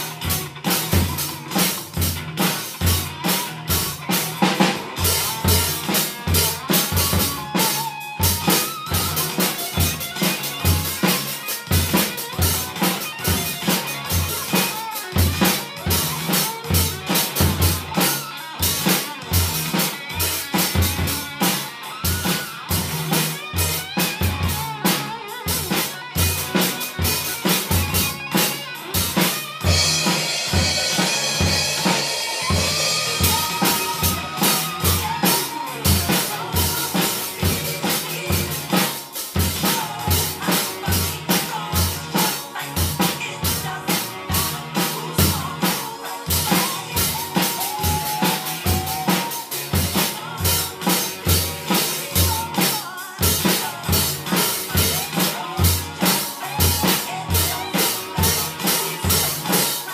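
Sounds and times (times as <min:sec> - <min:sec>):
drum kit playing a beat: 0:00.0 - 0:59.9.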